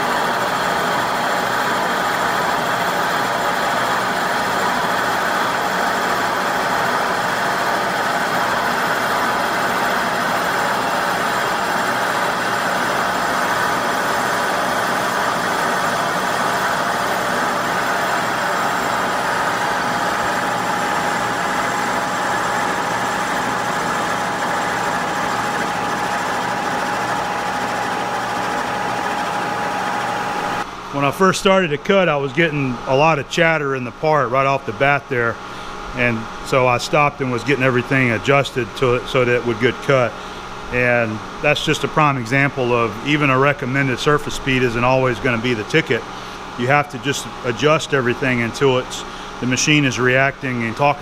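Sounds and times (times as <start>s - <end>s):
milling machine cutting metal: 0.0s - 51.0s
spindle drive running: 0.0s - 51.0s
steady whine: 0.0s - 51.0s.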